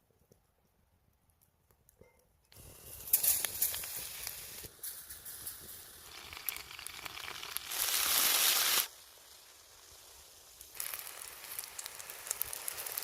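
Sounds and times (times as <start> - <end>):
fire crackles: 2.5 - 13.0
food sizzling over a campfire: 2.6 - 13.0.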